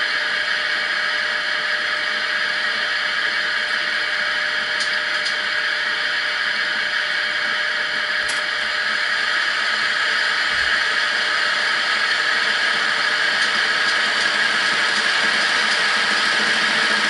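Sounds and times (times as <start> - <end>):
electric locomotive whirring hum: 0.0 - 17.0.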